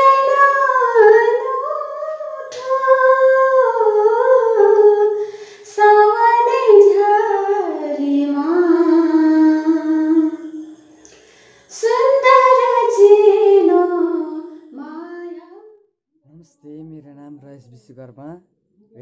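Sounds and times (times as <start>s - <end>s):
woman singing unaccompanied: 0.0s - 15.6s.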